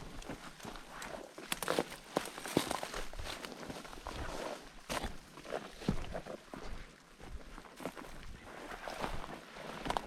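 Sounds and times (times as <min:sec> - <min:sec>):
crunching footsteps: 0:00.0 - 0:10.0.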